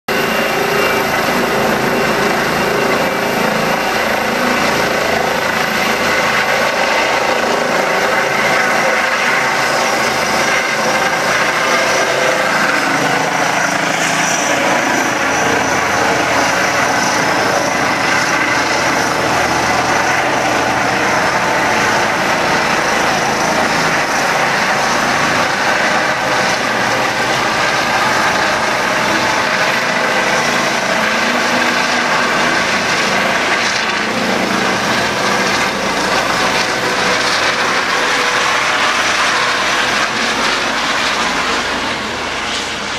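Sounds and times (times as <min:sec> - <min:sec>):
helicopter rotor and engine: 0:00.1 - 0:42.9.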